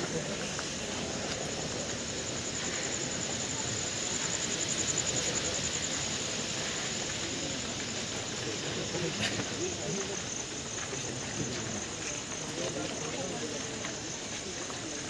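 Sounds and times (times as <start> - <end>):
crowd talking outdoors: 0.0 - 15.0.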